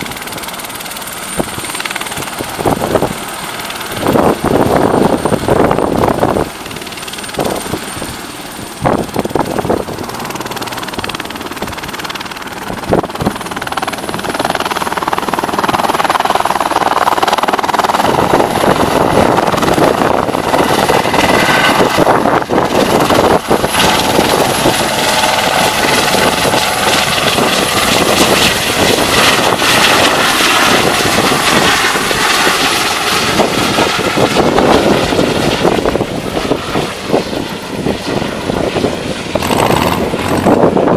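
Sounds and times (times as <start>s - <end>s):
helicopter rotor noise: 0.0s - 40.9s
turbine whine: 0.0s - 40.9s.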